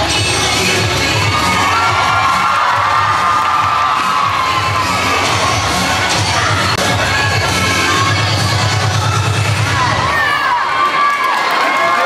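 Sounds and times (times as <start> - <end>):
low music beat: 0.0 - 9.9
crowd cheering and screaming: 0.7 - 8.8, 9.6 - 12.0.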